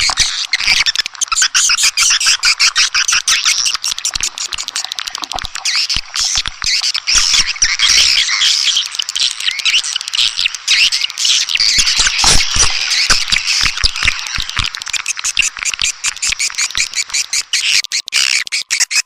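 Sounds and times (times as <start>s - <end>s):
sharp clicks: 0.0s - 19.0s
swiftlets chattering and twittering: 0.0s - 19.0s.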